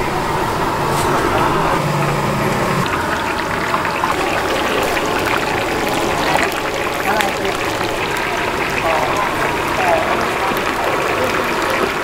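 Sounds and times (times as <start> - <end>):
food deep-frying in oil: 1.8 - 12.0.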